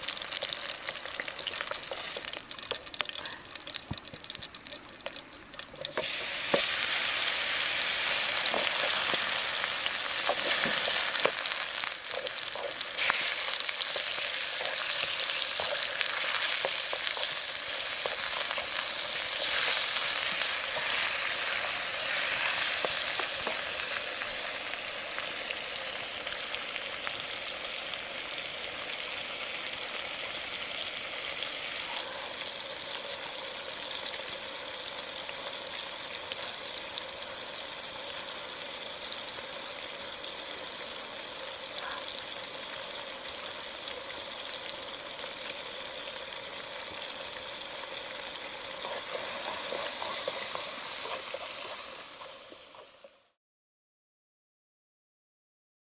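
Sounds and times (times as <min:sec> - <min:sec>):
food sizzling in a wok: 0:00.0 - 0:53.4.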